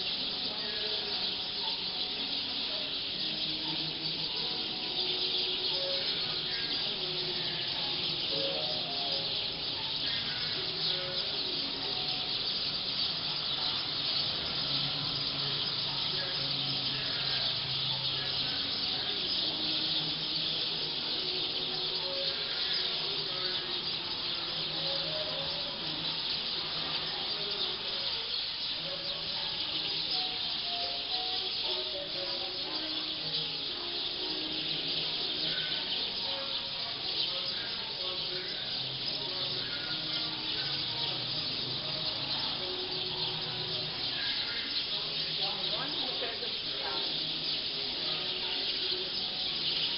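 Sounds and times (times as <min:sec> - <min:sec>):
flock of birds chattering: 0:00.0 - 0:49.9.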